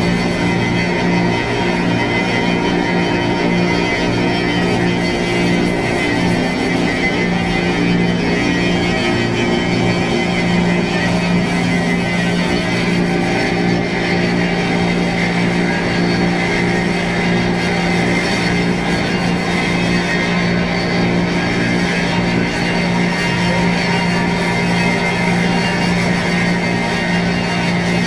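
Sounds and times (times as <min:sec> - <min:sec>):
low droning tone: 0:00.0 - 0:28.0.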